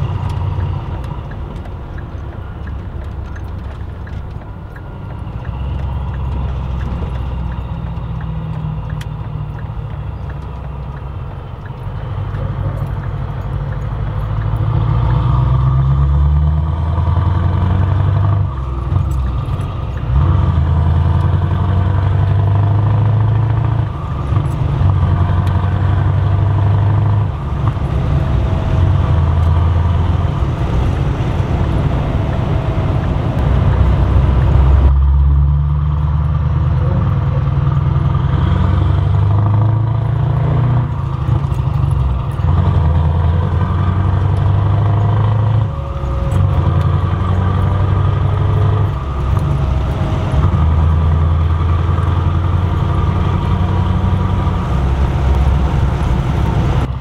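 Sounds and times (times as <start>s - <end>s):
truck diesel engine: 0.0s - 57.0s.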